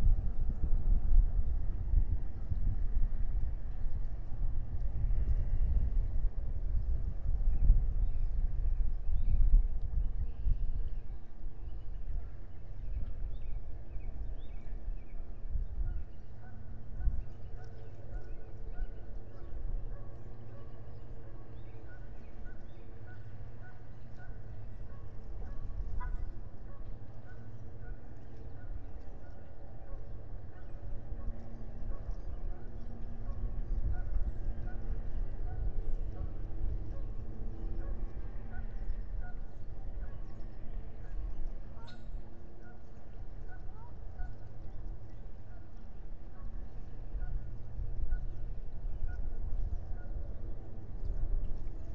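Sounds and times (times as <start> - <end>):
steady low rumble: 0.0 - 51.9.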